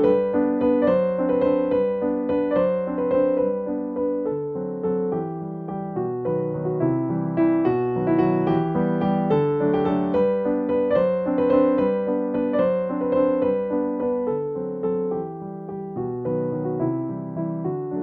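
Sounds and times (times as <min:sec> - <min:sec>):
gentle solo piano: 0:00.0 - 0:18.0.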